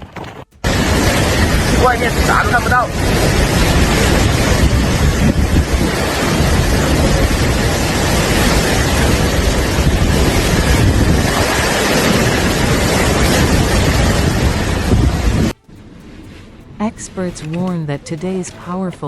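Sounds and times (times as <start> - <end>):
strong storm wind: 0.0 - 18.5
wind buffeting microphone: 0.0 - 18.8.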